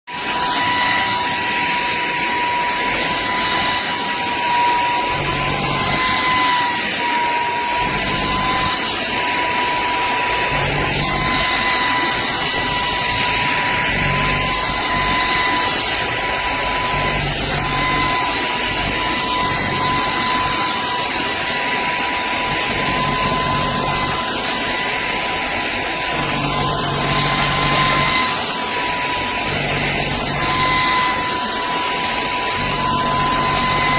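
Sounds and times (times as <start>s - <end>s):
stick vacuum motor whining: 0.0s - 33.9s.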